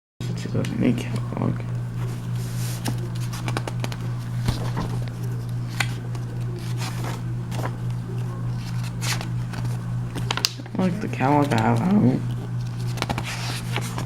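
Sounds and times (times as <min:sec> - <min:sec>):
steady low hum: 0:00.2 - 0:14.0
catalog pages turning: 0:00.4 - 0:14.0.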